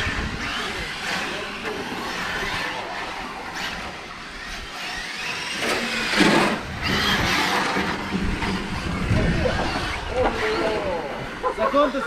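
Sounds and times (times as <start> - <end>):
electric motor whining: 0.0 - 11.4.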